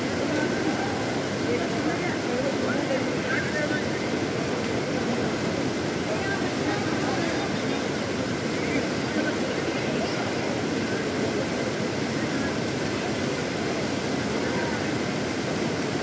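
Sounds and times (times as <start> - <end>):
faint voices: 0.0 - 16.0
stream rushing over rocks: 0.0 - 16.0.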